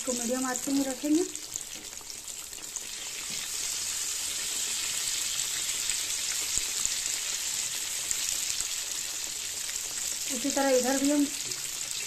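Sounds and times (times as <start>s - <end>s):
eggplant deep-frying in oil: 0.0s - 12.0s.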